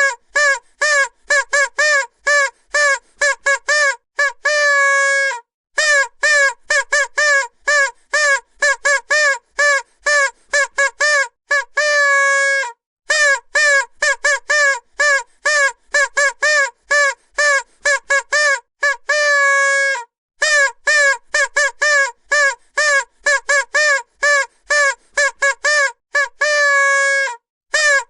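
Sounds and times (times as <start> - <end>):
vuvuzela toots: 0.0 - 28.0.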